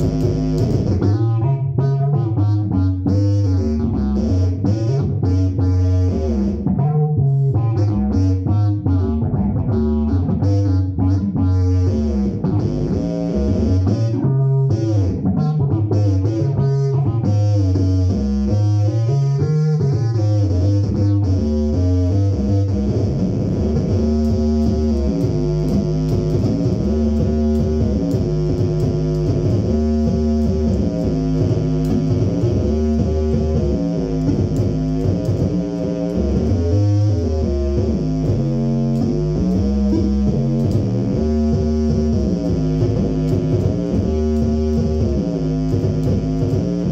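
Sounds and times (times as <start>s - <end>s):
fretless electric bass notes: 0.0s - 46.9s.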